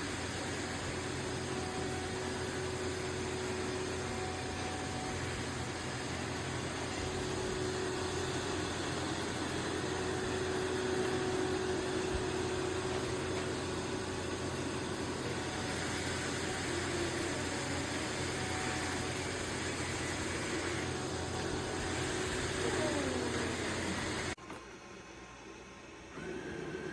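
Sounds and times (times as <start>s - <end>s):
robot vacuum motor whir: 0.0s - 24.4s, 26.1s - 26.9s.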